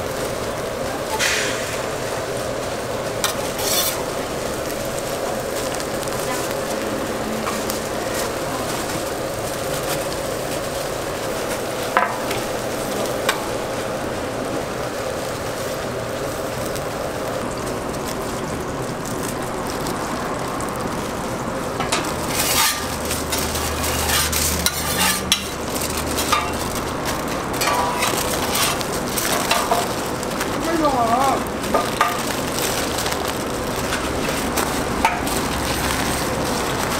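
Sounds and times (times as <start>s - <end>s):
aluminium foil crinkling: 0.0s - 36.9s
griddle sizzling: 0.0s - 36.9s.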